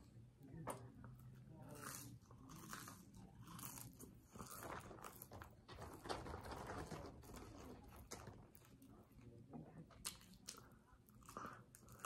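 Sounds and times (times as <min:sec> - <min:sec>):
faint chewing and crunching: 0:00.0 - 0:12.0.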